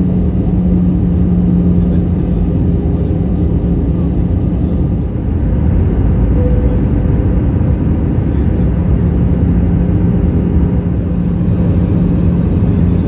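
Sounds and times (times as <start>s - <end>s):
aircraft cabin engine rumble: 0.0s - 13.0s
steady low hum: 0.0s - 13.0s.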